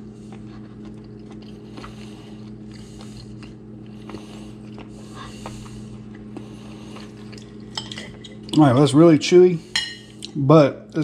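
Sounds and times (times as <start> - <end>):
person chewing wet food: 0.0 - 8.8, 10.1 - 10.4
electrical hum: 0.0 - 11.0.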